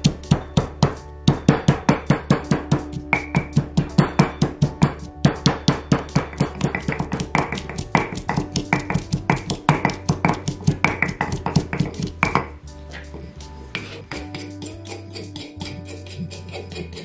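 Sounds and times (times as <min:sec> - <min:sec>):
pestle pounding in a mortar: 0:00.0 - 0:12.5, 0:14.1 - 0:17.0
background music: 0:00.0 - 0:17.0.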